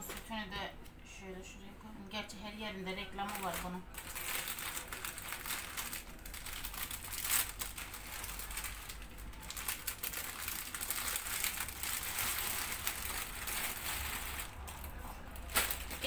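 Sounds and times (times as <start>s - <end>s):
plastic wrapper crinkling: 3.1s - 16.0s.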